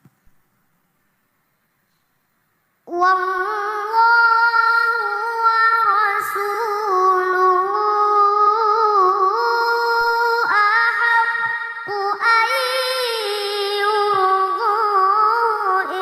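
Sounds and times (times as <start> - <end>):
child reciting melodically: 2.9 - 16.0.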